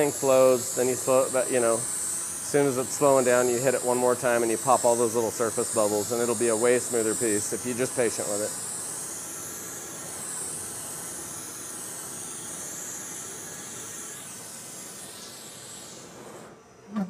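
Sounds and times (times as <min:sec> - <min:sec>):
torch flame hissing: 0:00.0 - 0:16.9.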